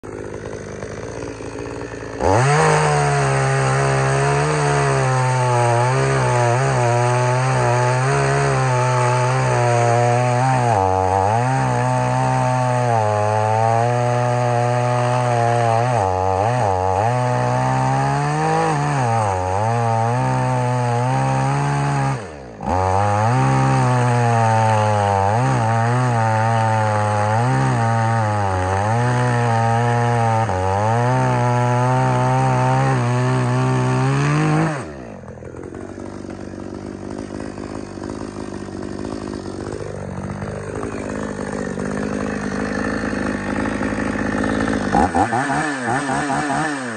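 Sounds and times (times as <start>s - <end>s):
chainsaw cutting a log: 0.0s - 46.9s.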